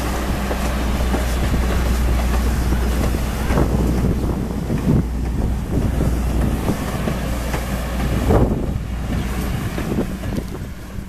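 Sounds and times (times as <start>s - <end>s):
train wheels rumbling over rails: 0.0s - 11.0s
wind on microphone: 0.0s - 11.0s.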